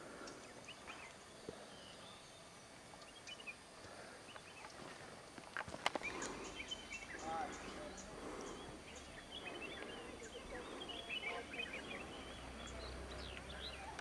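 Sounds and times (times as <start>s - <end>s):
faint open-air ambience: 0.0s - 14.0s.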